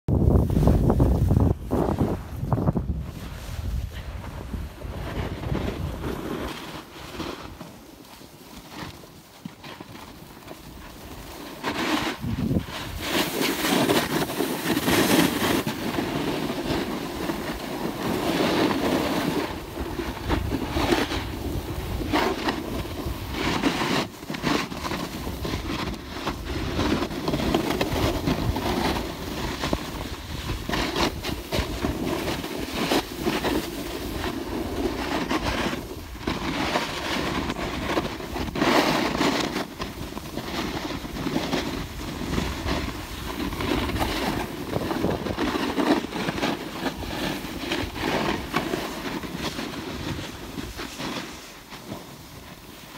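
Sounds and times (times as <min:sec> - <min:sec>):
wind noise on microphone: 0:00.1 - 0:07.9, 0:09.9 - 0:52.9
snowboard scraping over snow: 0:00.1 - 0:52.9.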